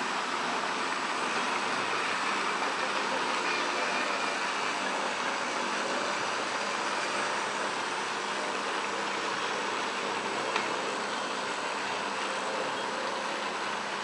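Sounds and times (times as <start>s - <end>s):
model train wheels rolling on rails: 0.0s - 14.0s.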